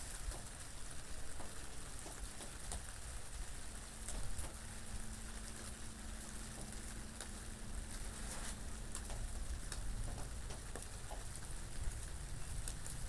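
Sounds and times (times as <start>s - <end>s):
raindrops pattering: 0.0s - 13.0s.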